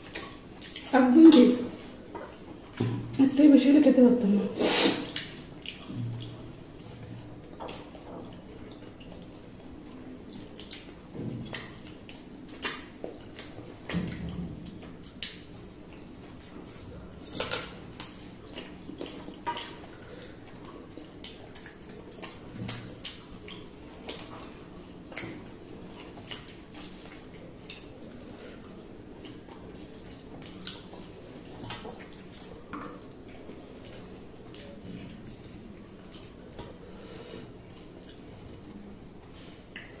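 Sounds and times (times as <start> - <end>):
chewing and lip smacking: 0.0 - 3.2, 5.0 - 40.0
wet eating mouth sounds: 0.0 - 3.4, 4.4 - 40.0.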